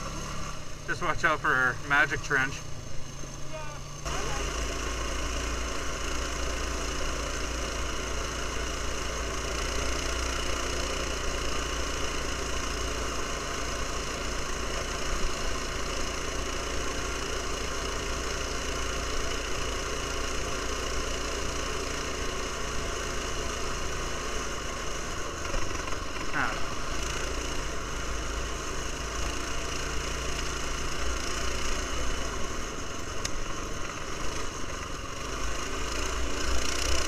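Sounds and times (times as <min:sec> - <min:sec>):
ride noise: 0:00.0 - 0:37.0
small engine running steadily: 0:00.0 - 0:37.0.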